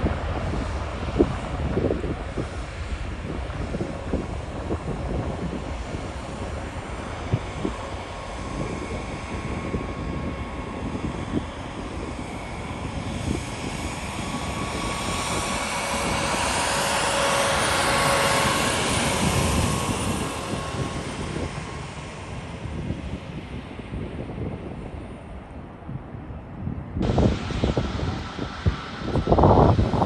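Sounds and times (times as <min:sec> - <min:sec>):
jet airliner taking off: 0:00.0 - 0:30.0
jet engine whine: 0:00.0 - 0:30.0
wind buffeting microphone: 0:00.0 - 0:30.0.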